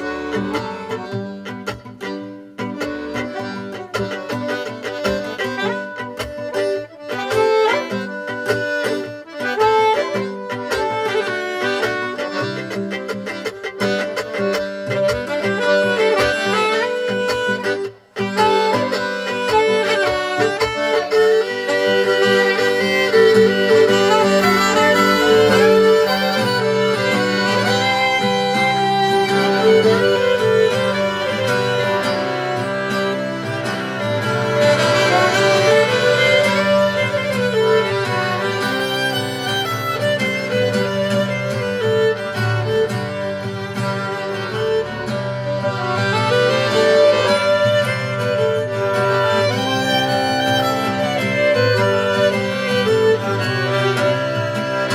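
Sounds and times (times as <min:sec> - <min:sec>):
folk band playing a reel: 0:00.0 - 0:54.9
violin: 0:00.0 - 0:54.9.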